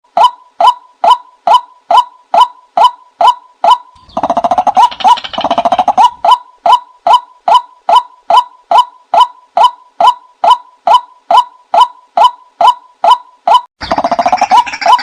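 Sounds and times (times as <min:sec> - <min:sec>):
harsh pulsed bird chattering: 0:01.0 - 0:15.0.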